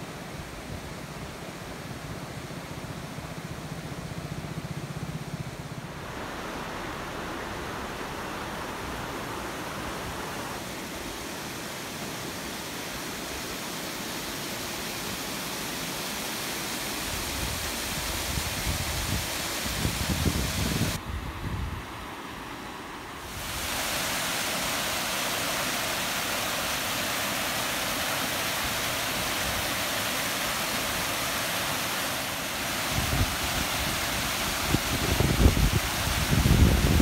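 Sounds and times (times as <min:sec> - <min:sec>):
water rushing over weir: 0:00.0 - 0:21.0, 0:22.3 - 0:37.0.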